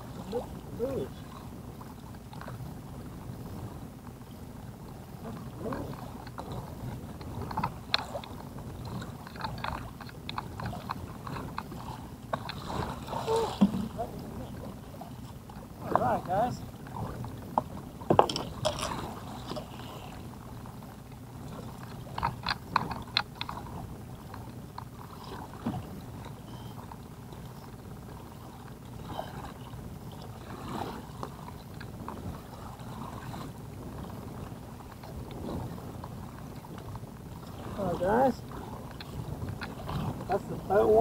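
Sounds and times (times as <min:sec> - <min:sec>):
wind and water: 0:00.0 - 0:41.0.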